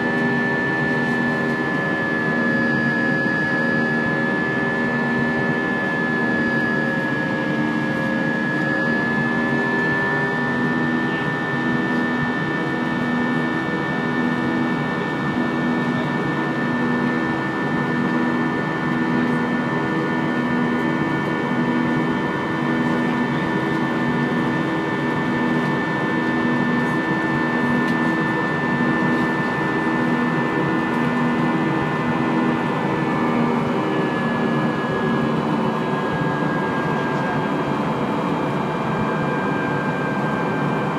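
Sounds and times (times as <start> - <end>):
high engine whine: 0.0 - 40.9
jet engine drone and airflow: 0.0 - 40.9.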